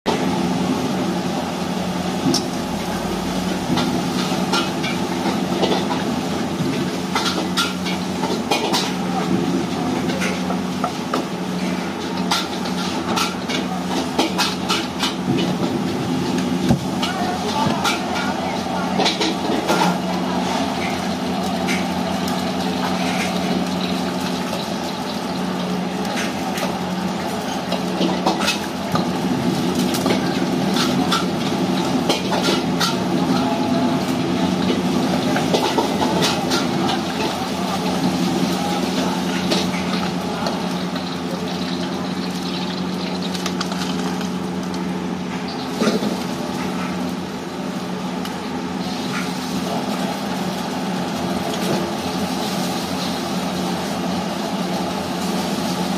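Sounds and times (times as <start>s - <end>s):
gas burner and fan hum: 0.1s - 55.9s.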